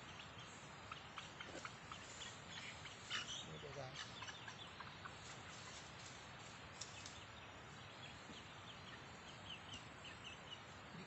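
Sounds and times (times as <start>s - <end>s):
chickens peeping: 0.0s - 11.0s
steady low hiss: 0.0s - 11.0s.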